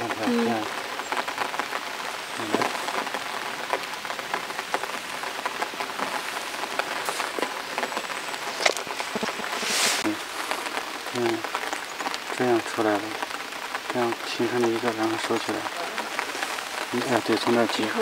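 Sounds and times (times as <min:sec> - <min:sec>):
light rain on wet stone: 0:00.0 - 0:18.0.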